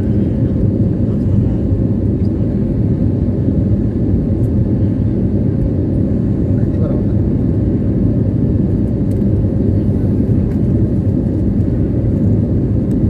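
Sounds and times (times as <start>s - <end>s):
airplane engines rumbling in cabin: 0.0s - 13.0s.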